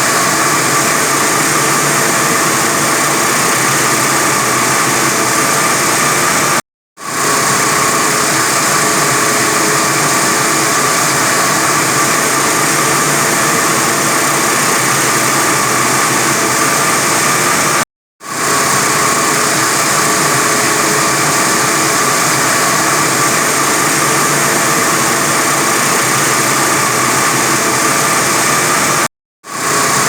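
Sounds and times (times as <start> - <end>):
wire saw cutting concrete: 0.0 - 30.0.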